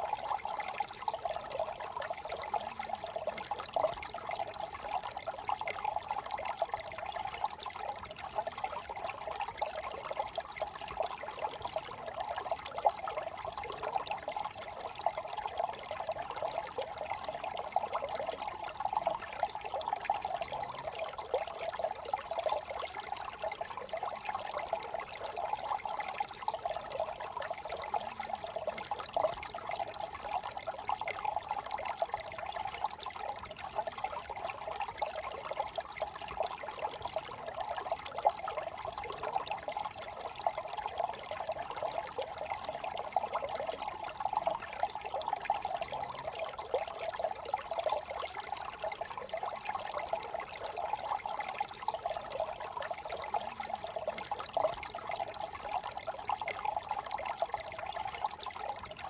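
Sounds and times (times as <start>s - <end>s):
brook trickling over stones: 0.0s - 59.0s.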